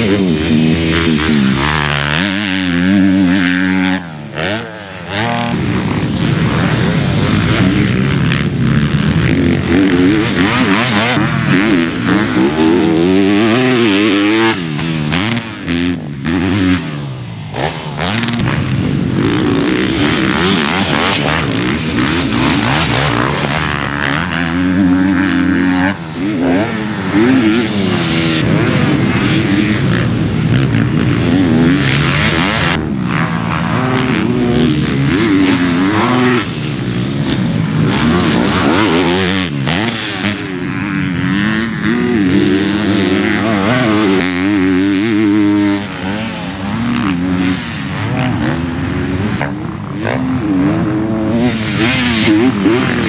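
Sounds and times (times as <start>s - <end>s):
motocross bikes revving: 0.0s - 53.0s.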